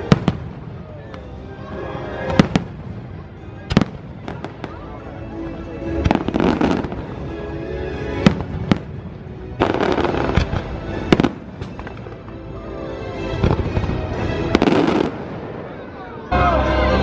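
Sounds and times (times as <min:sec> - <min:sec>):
fireworks bangs and crackles: 0:00.0 - 0:07.4, 0:08.0 - 0:16.2.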